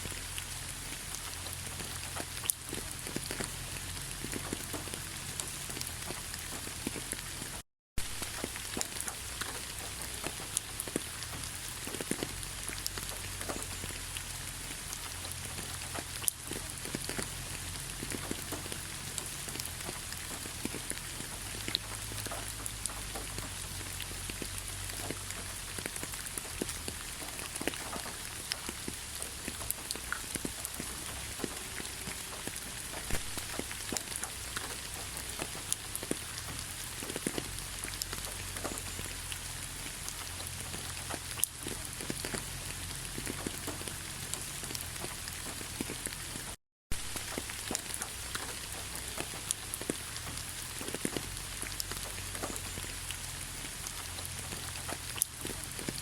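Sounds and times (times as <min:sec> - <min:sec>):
steady rain with ticking drops: 0:00.0 - 0:56.0.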